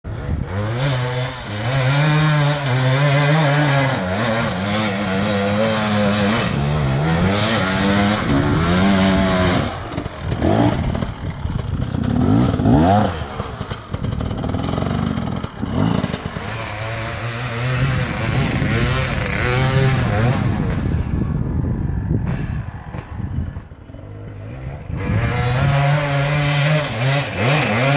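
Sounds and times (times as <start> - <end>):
dirt bike engine revving: 0.1 - 27.9.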